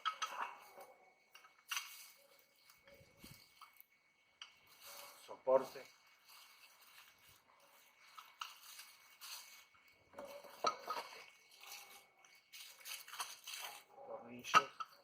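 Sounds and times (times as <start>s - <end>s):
faint rustling: 0.0s - 14.2s
light clinks of metal parts: 0.0s - 15.0s.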